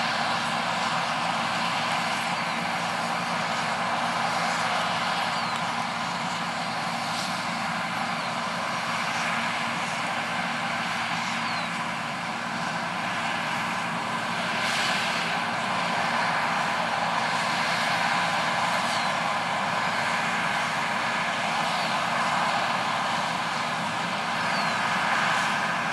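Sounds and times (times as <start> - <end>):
combine harvester drone: 0.0 - 25.9.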